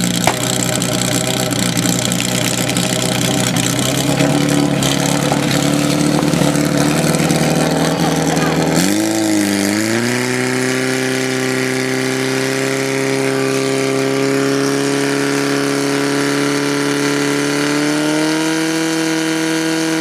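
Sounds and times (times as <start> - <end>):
pump engine running high revs: 0.0 - 20.0.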